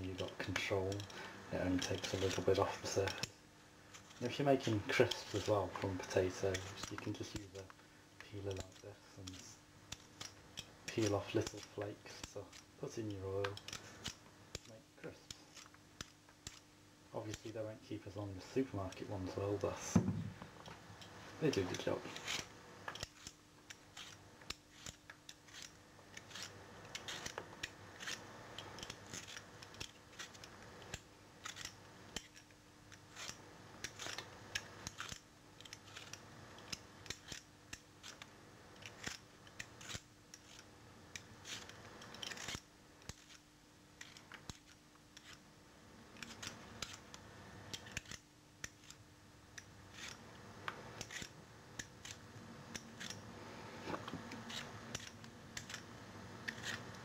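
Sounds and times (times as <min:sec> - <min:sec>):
peeler scraping potato: 0:00.0 - 0:19.9, 0:20.6 - 0:45.5, 0:46.1 - 0:57.0
faint steady hum: 0:00.0 - 0:57.0.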